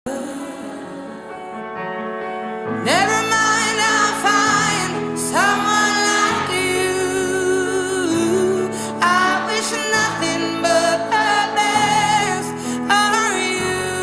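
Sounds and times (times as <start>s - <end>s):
woman singing: 0.1s - 1.6s, 2.8s - 14.0s.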